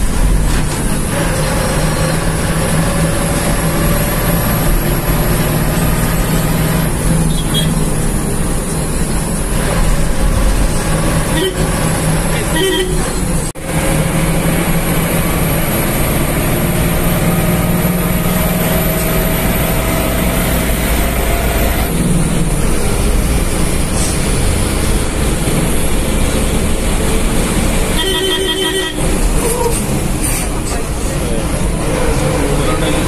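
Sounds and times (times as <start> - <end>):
bus diesel engine running: 0.0 - 33.0
road noise: 0.0 - 33.0.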